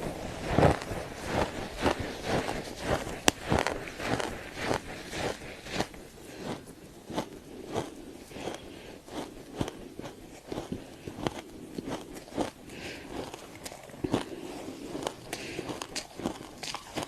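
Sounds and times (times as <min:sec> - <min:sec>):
frost being chewed crunching: 0:00.0 - 0:17.0.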